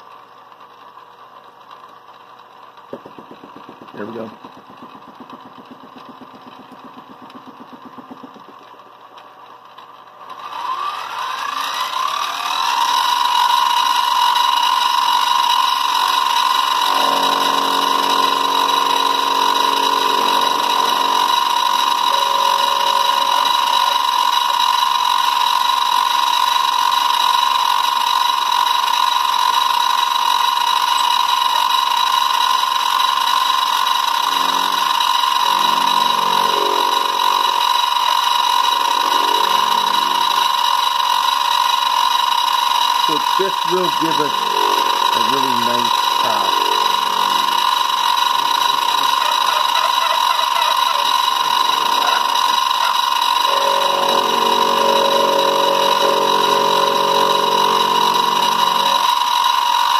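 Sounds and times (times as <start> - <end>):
milling machine spindle whine: 2.8 - 8.9, 10.2 - 59.9.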